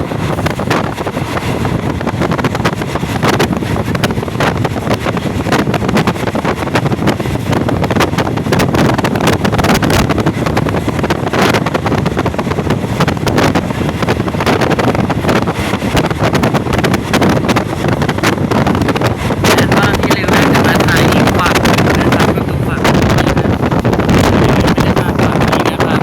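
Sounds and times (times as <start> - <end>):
train rumbling at speed: 0.0 - 26.0
wind rushing on microphone: 0.0 - 26.0.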